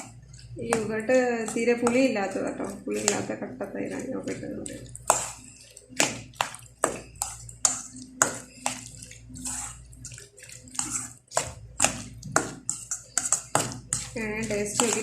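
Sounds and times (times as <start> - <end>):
spoon stirring in a bowl: 0.0 - 15.0.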